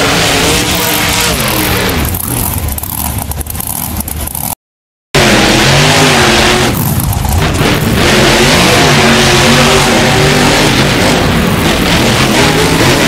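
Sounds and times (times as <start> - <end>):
truck engine revving: 0.0 - 4.6, 5.2 - 13.0.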